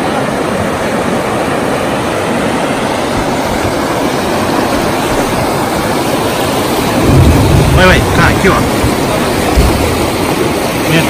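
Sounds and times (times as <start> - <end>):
whitewater rapids rushing: 0.0 - 11.0.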